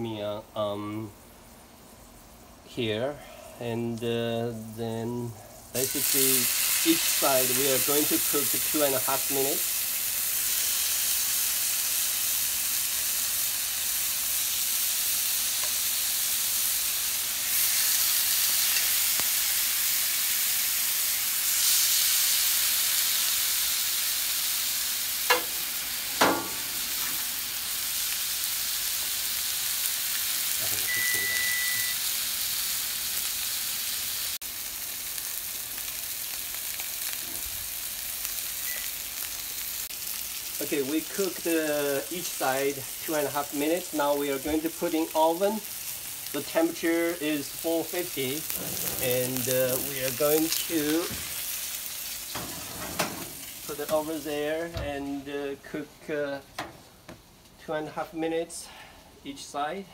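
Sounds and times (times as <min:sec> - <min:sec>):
steaks sizzling in oil: 0:05.7 - 0:54.6.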